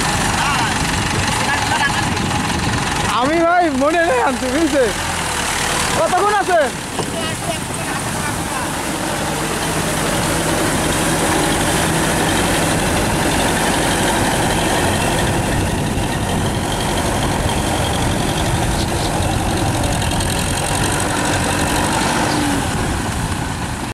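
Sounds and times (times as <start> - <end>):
rotavator churning mud: 0.0 - 23.9
tractor diesel engine running: 0.0 - 23.9.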